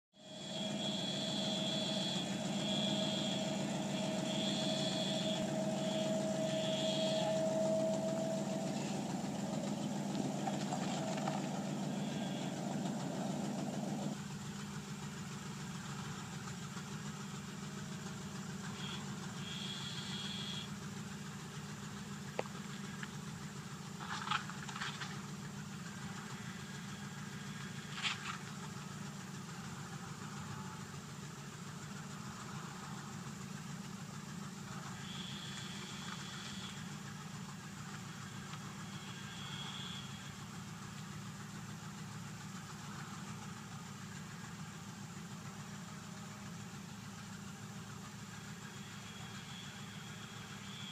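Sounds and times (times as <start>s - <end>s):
pickup truck engine idling: 0.2s - 50.9s.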